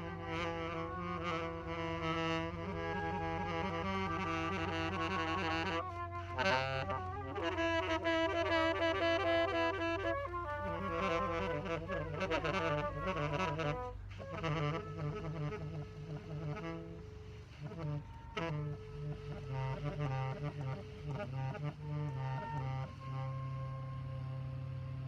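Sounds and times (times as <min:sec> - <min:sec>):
bowed low string instrument: 0:00.0 - 0:25.0
saxophone: 0:00.0 - 0:25.0.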